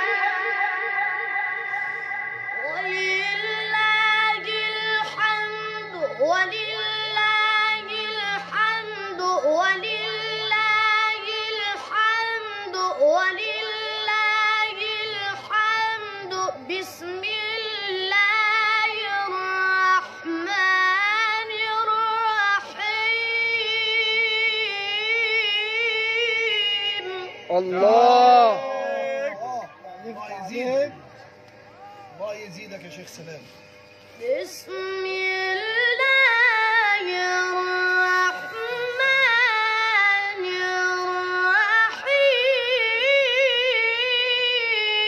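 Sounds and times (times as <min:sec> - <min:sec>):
boy reciting melodically: 0:00.0 - 0:28.6, 0:34.2 - 0:45.0.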